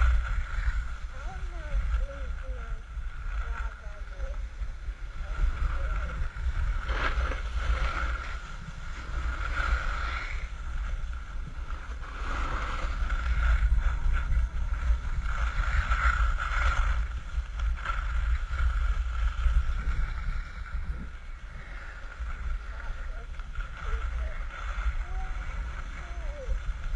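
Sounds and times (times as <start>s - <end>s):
skis scraping over snow: 0.0s - 26.9s
wind rumbling on microphone: 0.0s - 26.9s.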